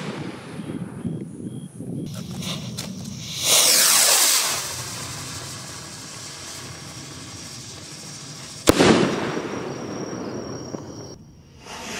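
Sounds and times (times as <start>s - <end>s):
firework bang: 2.1s - 11.9s
rocket launch whoosh: 2.1s - 11.9s.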